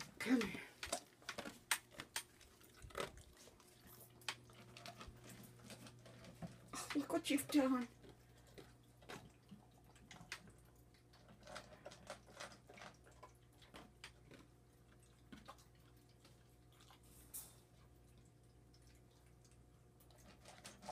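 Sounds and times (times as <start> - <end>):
kitten eating dry food: 0.0 - 20.9.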